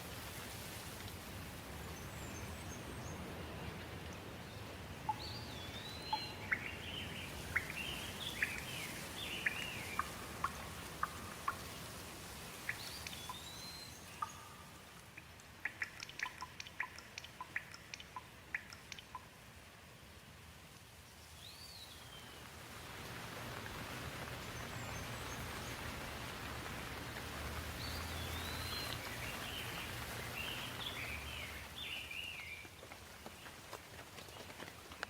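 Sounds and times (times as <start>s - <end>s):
sharp water drips: 0.0s - 19.6s, 20.7s - 35.0s
steady rain: 0.0s - 35.0s
songbirds calling: 1.8s - 19.3s, 23.8s - 35.0s.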